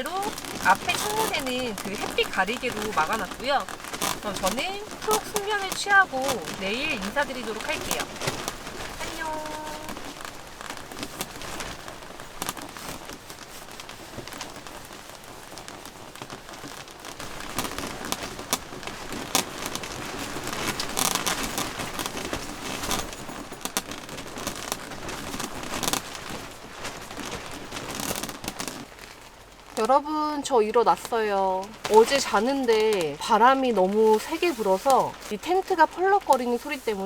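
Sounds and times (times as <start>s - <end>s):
tent fabric flapping in wind: 0.0s - 37.0s.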